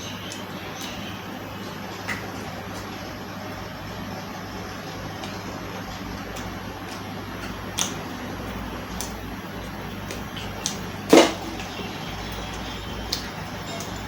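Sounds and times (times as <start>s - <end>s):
eating clicks and crunches: 0.0s - 4.0s, 4.6s - 14.0s
steady low hum: 0.0s - 14.0s.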